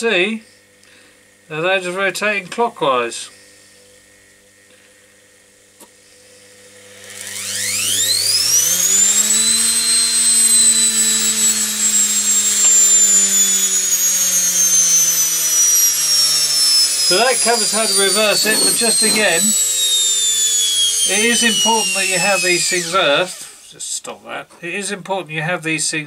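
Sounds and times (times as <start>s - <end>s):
motor whine spinning up: 2.8s - 23.8s.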